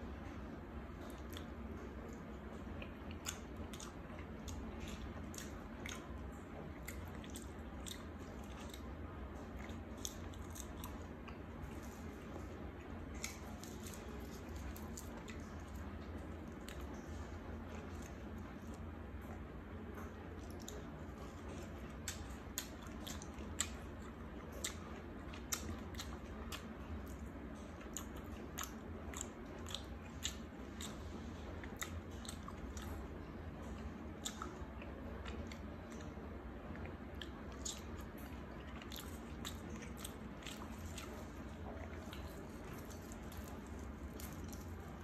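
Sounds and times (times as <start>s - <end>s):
steady low hum: 0.0s - 45.0s
person chewing and crunching food: 0.1s - 45.0s.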